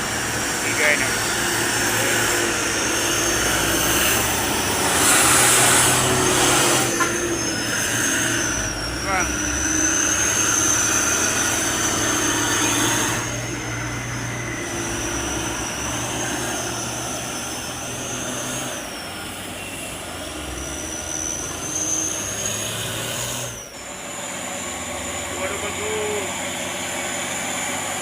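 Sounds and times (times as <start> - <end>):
diesel engine running: 0.0 - 28.0
high wavering whine: 0.0 - 28.0.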